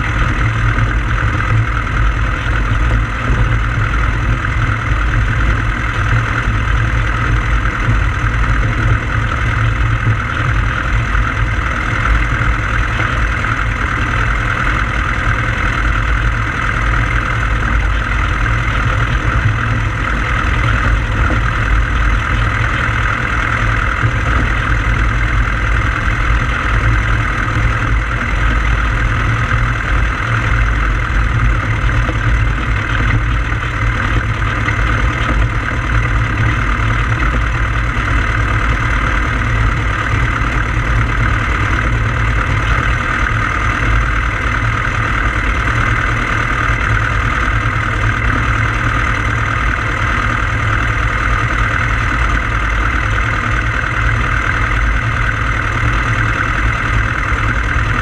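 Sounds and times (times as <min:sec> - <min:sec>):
light aircraft engine running: 0:00.0 - 0:58.0.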